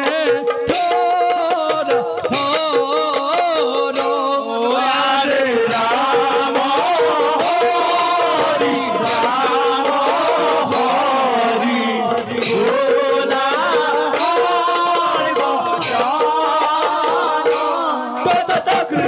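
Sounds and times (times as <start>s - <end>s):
drum strokes: 0.0s - 19.0s.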